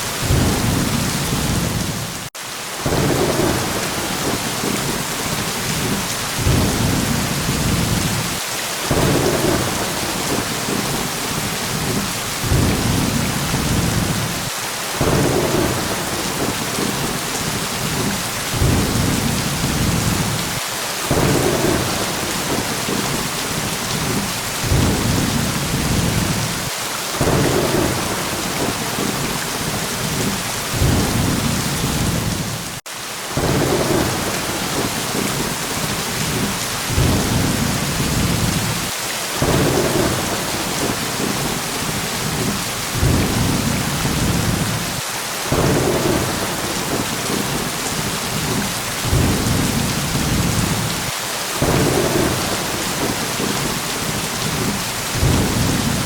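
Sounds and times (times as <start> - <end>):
heavy rain: 0.0 - 56.0
low thunder rumbles: 0.2 - 32.8, 33.4 - 56.0.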